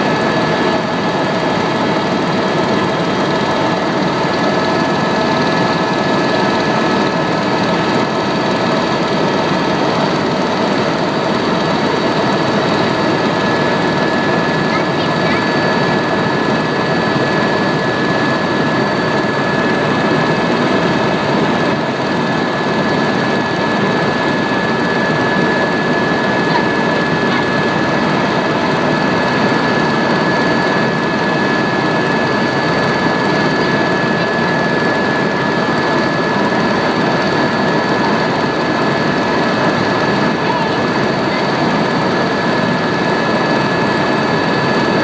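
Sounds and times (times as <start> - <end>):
helicopter engine and rotors: 0.0 - 45.0
high-pitched turbine whine: 0.0 - 45.0.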